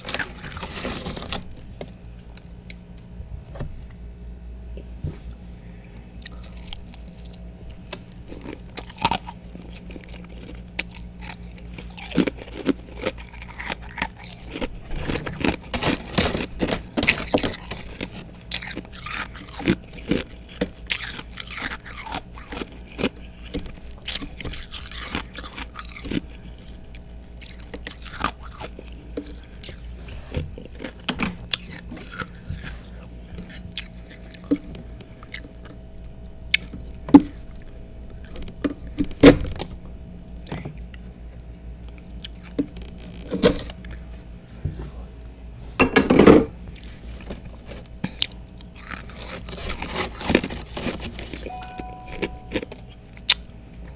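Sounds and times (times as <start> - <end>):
crunching and chewing ice: 0.0 - 2.9, 5.8 - 44.1, 46.6 - 53.9.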